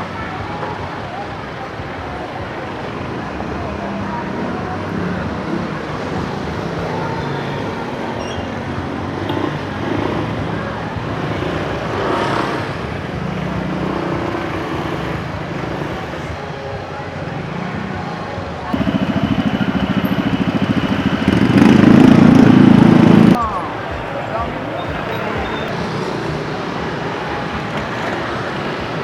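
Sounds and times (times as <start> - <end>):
street traffic: 0.0 - 29.0
vehicle passing loudly: 0.9 - 29.0.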